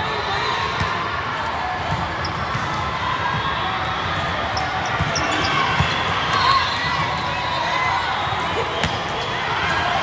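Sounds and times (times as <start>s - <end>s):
hubbub of voices: 0.0s - 10.0s.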